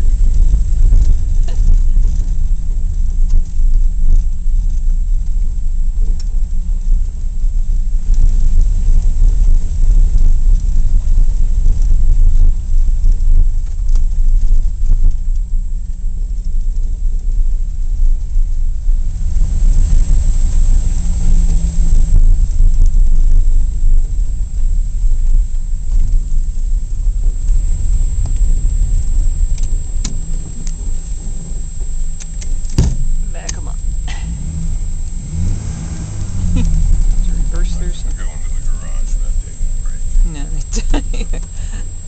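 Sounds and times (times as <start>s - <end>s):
car engine drone: 0.0s - 42.0s
road rumble: 0.0s - 42.0s.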